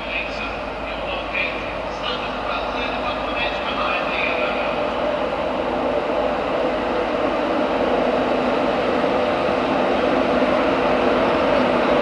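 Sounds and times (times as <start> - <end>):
locomotive hum: 0.0 - 12.0
rumble of train wheels on rail: 0.0 - 12.0.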